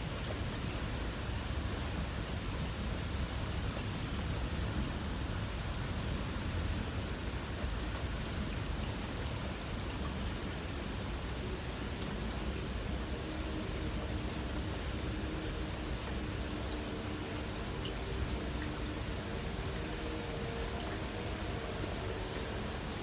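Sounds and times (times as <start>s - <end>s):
light rain hiss: 0.0s - 23.0s
faint drip ticks: 1.9s - 22.9s.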